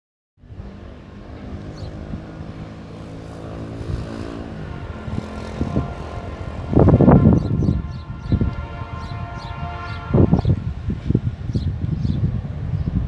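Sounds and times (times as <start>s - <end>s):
diesel locomotive engine droning: 0.4s - 11.6s.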